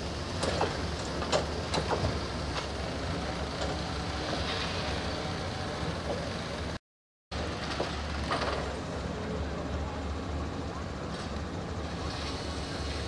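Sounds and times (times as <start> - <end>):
diesel machinery humming: 0.0 - 6.8, 7.4 - 13.0.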